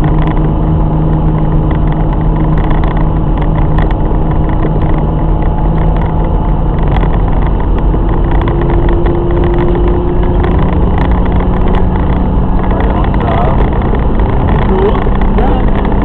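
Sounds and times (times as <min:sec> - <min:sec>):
car engine running: 0:00.0 - 0:16.0
road noise: 0:00.0 - 0:16.0.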